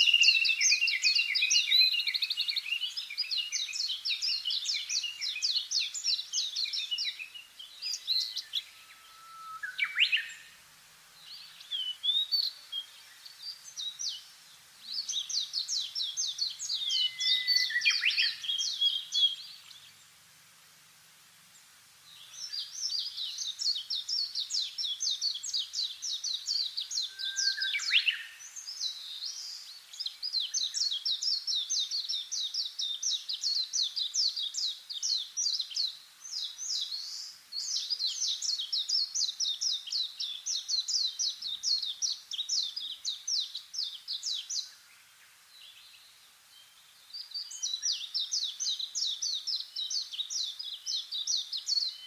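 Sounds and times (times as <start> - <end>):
songbird singing high chirps: 0.0 - 20.2, 21.5 - 52.0.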